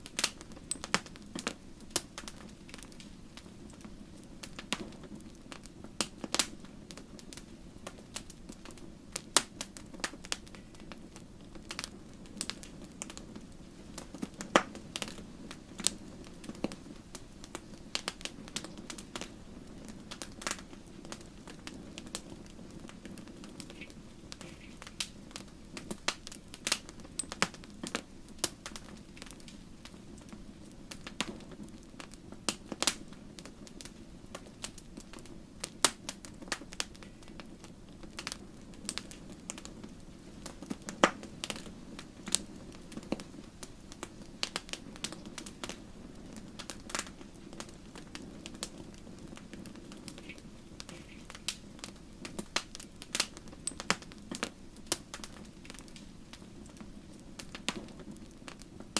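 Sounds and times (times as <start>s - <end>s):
fire crackling snaps and pops: 0.0s - 58.9s
low rumble of flames: 0.0s - 58.9s.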